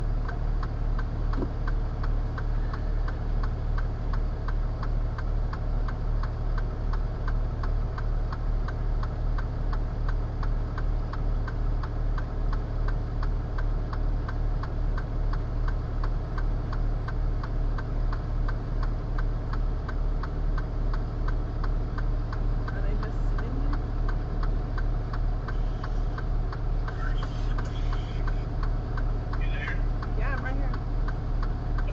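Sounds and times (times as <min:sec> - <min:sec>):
truck engine idling: 0:00.0 - 0:31.9.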